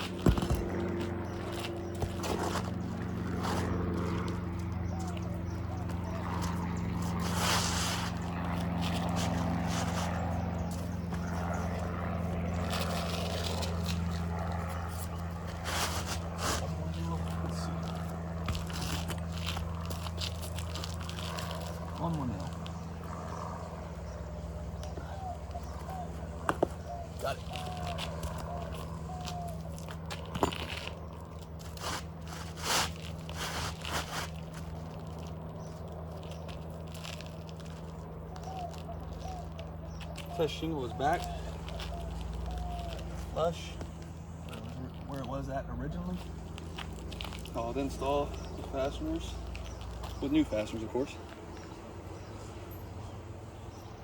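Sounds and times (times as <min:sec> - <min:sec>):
low engine drone: 0:00.0 - 0:54.0
steady low hum: 0:00.0 - 0:54.0.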